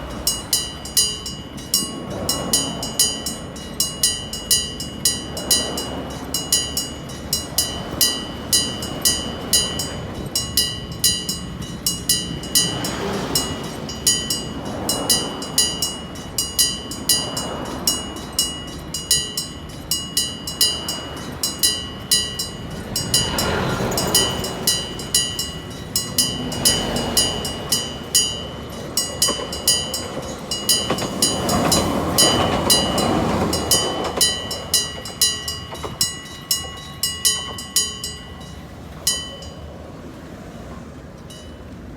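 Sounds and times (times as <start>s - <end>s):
level crossing bell ringing: 0.0s - 40.0s
train passing rumble: 0.0s - 41.9s.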